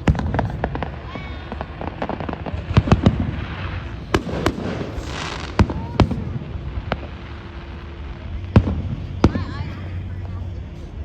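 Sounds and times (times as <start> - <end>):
crackling hiss of bursting fireworks: 0.0 - 11.0
fireworks banging: 0.0 - 11.0.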